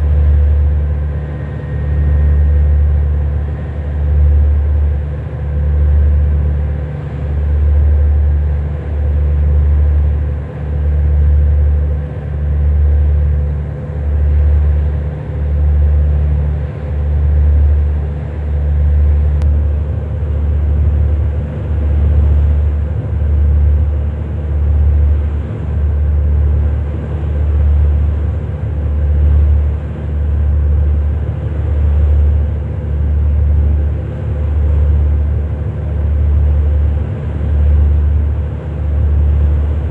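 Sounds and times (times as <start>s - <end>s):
heavy engine rumbling: 0.0s - 39.9s
steady hum: 0.0s - 39.9s.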